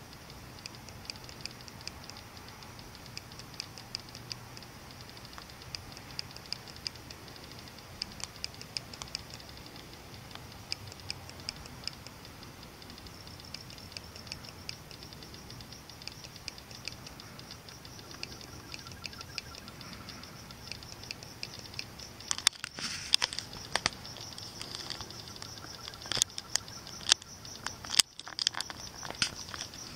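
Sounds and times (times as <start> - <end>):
short clicks and ticks: 0.0 - 29.9
steady high hiss: 0.0 - 29.9.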